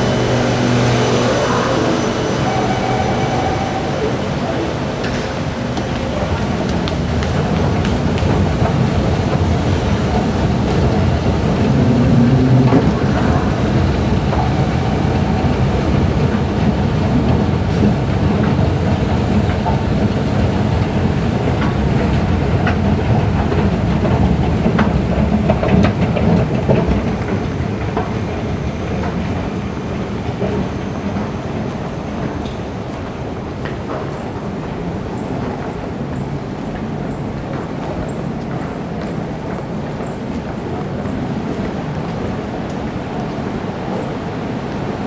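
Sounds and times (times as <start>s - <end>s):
escalator low rumble: 0.0s - 45.0s
light clicks of escalator steps: 5.0s - 45.0s.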